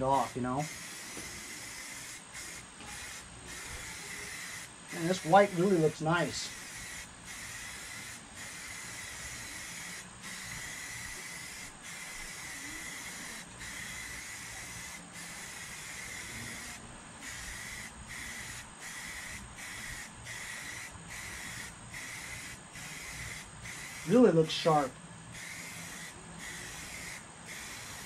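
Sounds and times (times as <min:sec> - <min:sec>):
spray paint can hissing: 0:00.0 - 0:28.0.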